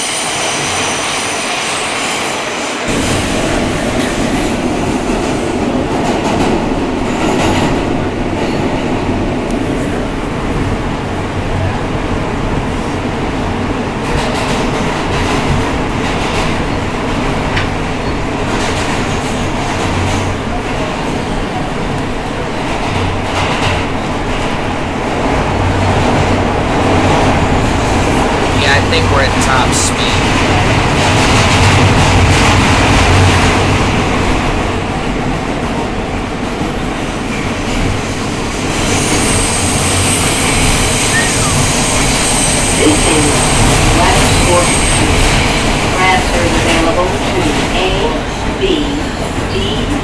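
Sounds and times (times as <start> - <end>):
train car rumbling: 0.0 - 50.0.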